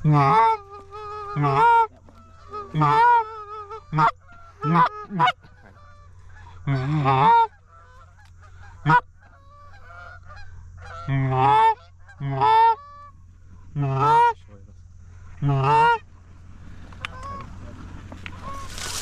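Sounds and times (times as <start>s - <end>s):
goose honking: 0.0s - 13.2s, 13.8s - 14.4s, 15.4s - 16.1s, 18.2s - 19.0s.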